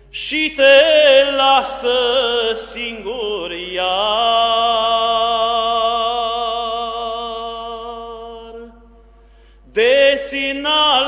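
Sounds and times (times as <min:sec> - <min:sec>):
man chanting: 0:00.2 - 0:08.8, 0:09.7 - 0:11.0.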